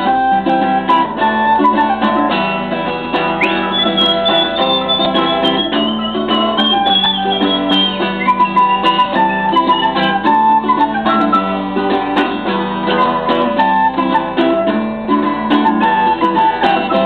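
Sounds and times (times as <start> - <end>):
acoustic guitar plucking: 0.0 - 17.0
flute melody: 0.0 - 17.0.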